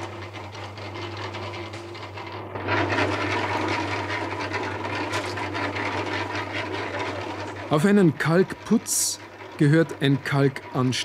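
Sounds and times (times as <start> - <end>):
mortar mixer churning: 0.0 - 11.0.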